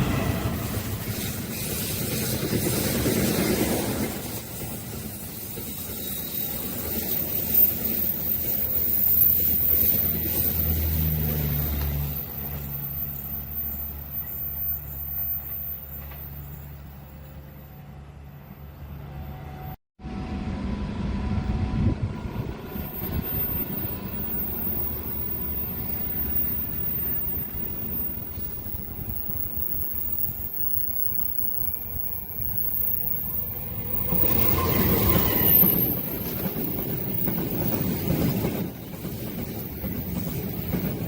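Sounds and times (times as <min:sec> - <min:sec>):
train rumbling past: 0:00.0 - 0:41.0.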